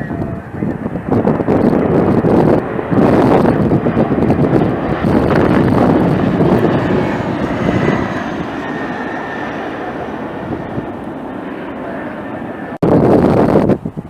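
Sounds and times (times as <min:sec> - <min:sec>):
jet airliner rumble: 0:00.0 - 0:14.0
thin jet engine whine: 0:00.0 - 0:14.0
wind buffeting microphone: 0:00.0 - 0:14.0.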